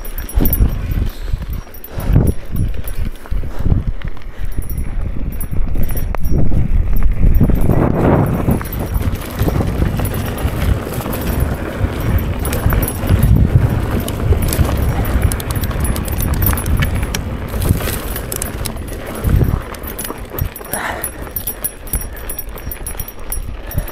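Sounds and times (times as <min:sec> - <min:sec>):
bike rattling and clicking: 0:00.0 - 0:23.9
wind rumble on microphone: 0:00.0 - 0:23.9.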